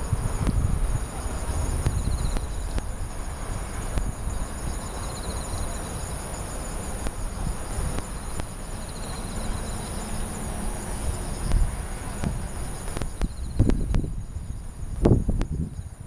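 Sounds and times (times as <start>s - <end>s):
insects chirping in pulses: 0.0s - 16.0s
insects trilling: 0.0s - 16.0s
low background rumble: 0.0s - 16.0s.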